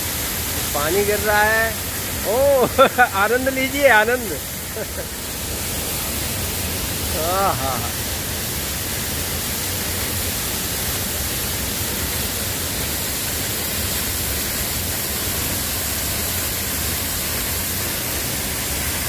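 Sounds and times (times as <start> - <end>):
waterfall splashing onto rocks: 0.0 - 19.0.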